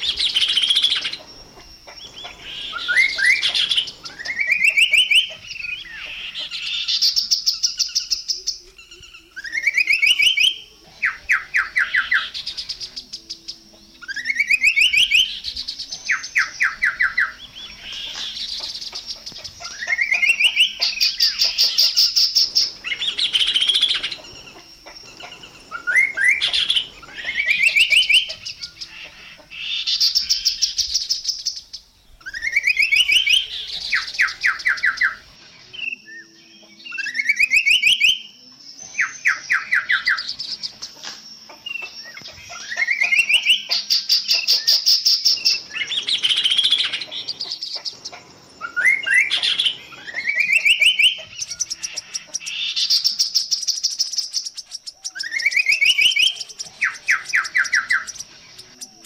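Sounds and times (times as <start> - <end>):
bird singing rattling phrases: 0.0 - 59.0.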